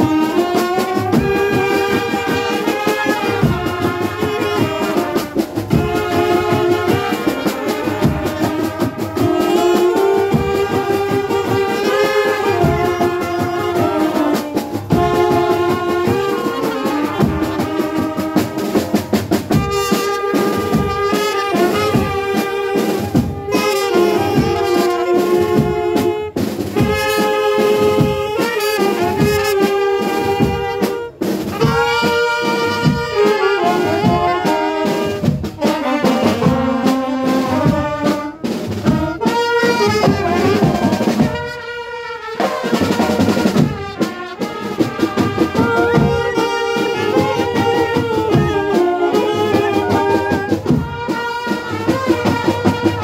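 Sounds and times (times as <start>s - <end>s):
brass band playing melody: 0.0s - 53.0s
steady drum beat: 0.0s - 53.0s.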